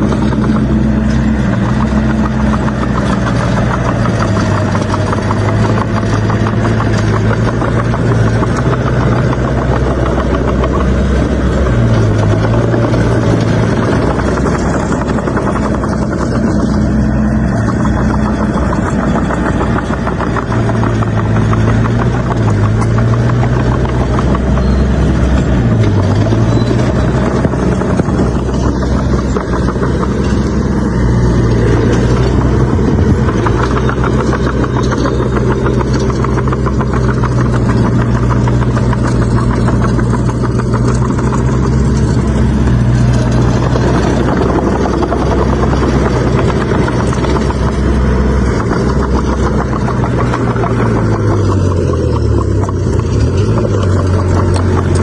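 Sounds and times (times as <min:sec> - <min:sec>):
bulldozer diesel engine: 0:00.0 - 0:55.0
mechanical clatter: 0:00.0 - 0:55.0.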